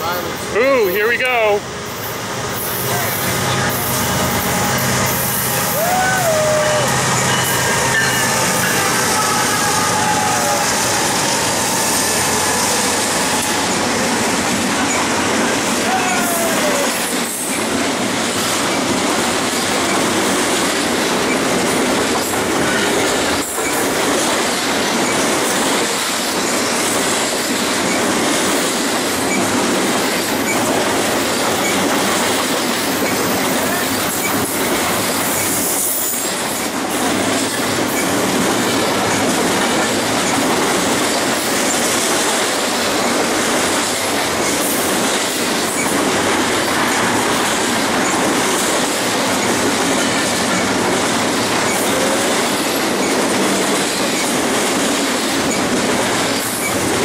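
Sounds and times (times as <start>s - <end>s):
steel train wheels on rails: 0.0s - 57.0s.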